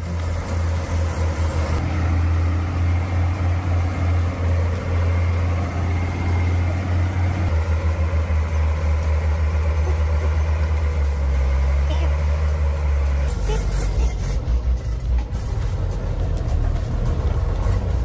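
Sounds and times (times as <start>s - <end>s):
heavy truck engine throbbing: 0.0s - 18.0s.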